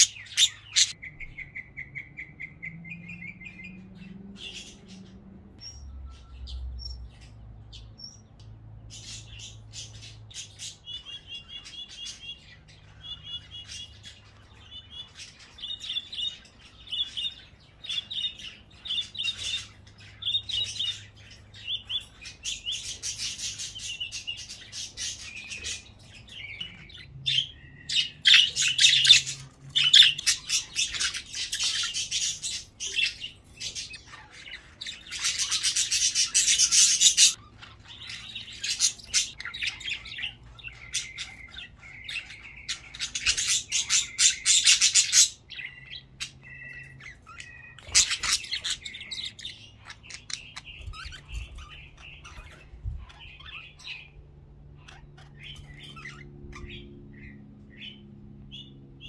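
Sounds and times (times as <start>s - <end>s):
budgerigars chattering and squawking: 0.0s - 59.0s.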